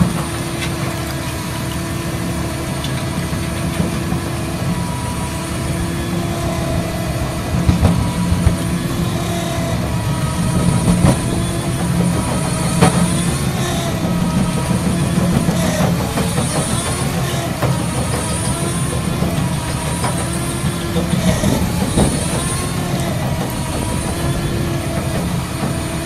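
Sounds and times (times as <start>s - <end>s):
diesel engine under load: 0.0s - 26.0s.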